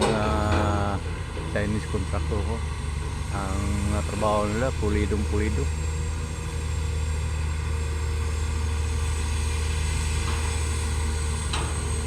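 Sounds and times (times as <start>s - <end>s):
heavy machinery engine drone: 0.0s - 12.0s.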